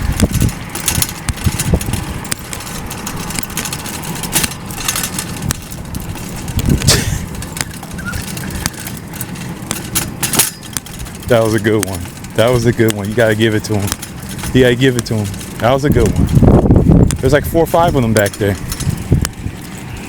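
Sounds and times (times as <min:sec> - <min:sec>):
rustles: 0:00.0 - 0:20.0
street traffic rumble: 0:00.0 - 0:20.0.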